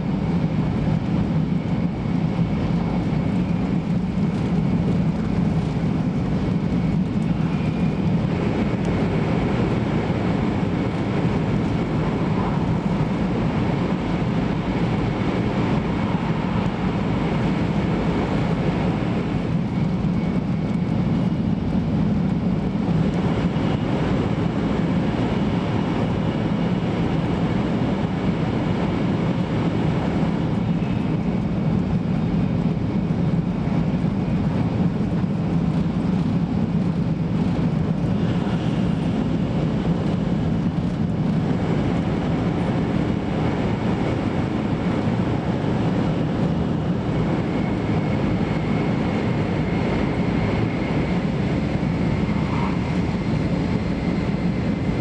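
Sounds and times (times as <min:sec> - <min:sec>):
train interior rumble: 0:00.0 - 0:55.0.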